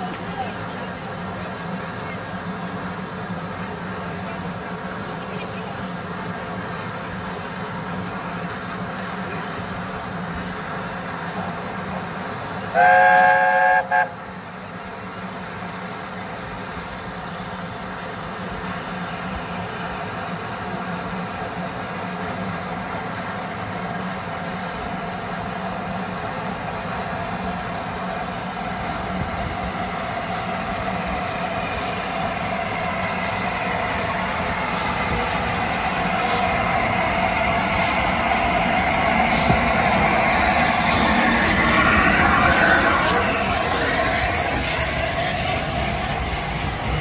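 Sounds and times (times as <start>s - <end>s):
train running on rails: 0.0s - 47.0s.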